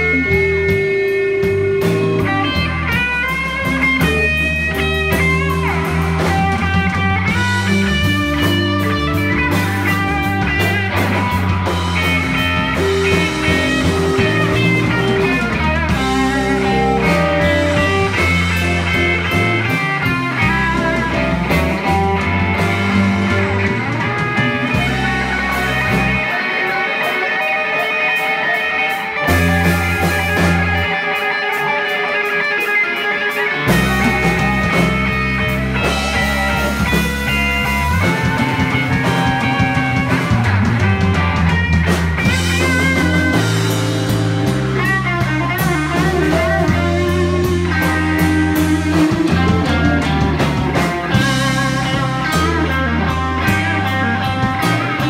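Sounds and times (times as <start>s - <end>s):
bass: 0.0s - 27.5s, 28.2s - 31.7s, 32.6s - 55.0s
drums: 0.0s - 55.0s
electric guitar lead: 0.0s - 55.0s.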